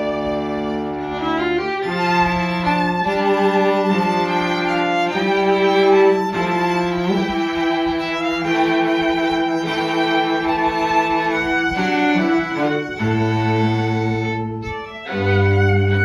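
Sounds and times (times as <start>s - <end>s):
string trio playing: 0.0s - 16.0s.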